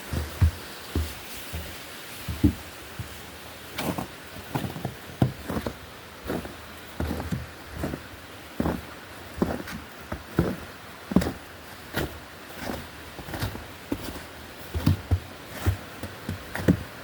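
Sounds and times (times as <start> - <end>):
footsteps walking: 0.0 - 17.0
steady background hiss: 0.0 - 17.0.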